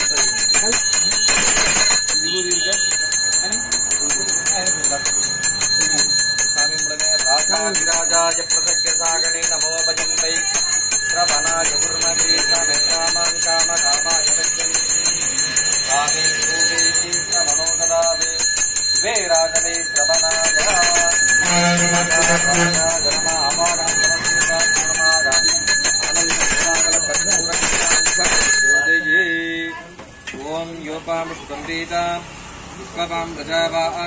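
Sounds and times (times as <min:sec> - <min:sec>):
brass hand bell ringing: 0:00.0 - 0:30.3.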